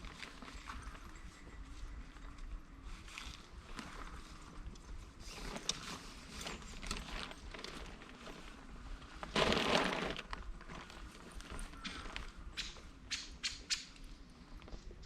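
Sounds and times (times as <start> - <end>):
camping gear clicking and rustling: 0.0 - 12.9.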